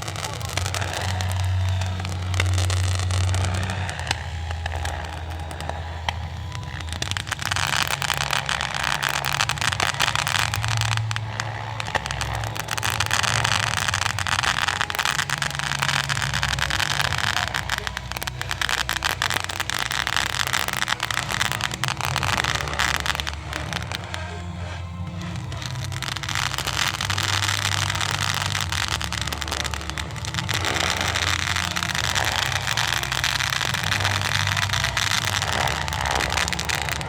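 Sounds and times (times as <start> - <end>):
fireworks crackling: 0.0 - 37.0
model helicopter humming: 0.0 - 37.0.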